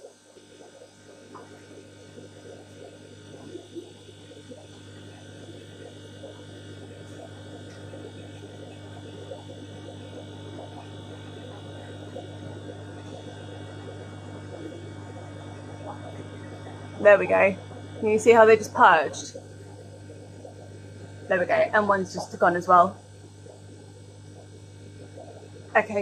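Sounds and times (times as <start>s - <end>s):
aquarium pumps humming: 0.0s - 26.0s
water gurgling and bubbling: 0.0s - 26.0s.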